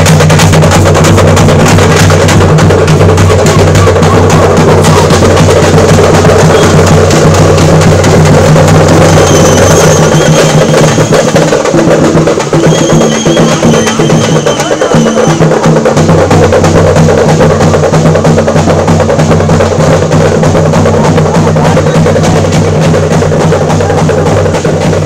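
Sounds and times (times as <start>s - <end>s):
drums beating fast rhythm: 0.0s - 25.0s.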